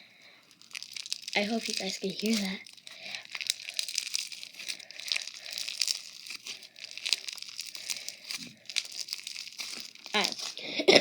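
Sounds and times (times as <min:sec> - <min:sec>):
bead slime crackling and crunching: 0:00.2 - 0:10.8.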